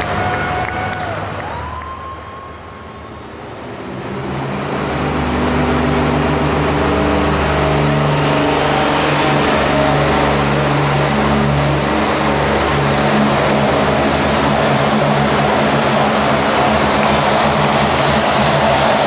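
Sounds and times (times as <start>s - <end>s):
tractor diesel engine at high revs: 3.1s - 19.0s.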